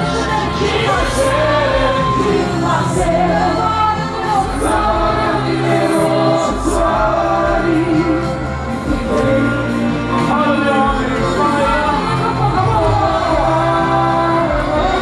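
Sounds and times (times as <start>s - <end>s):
congregation singing a hymn: 0.0s - 15.0s
musical accompaniment: 0.0s - 15.0s.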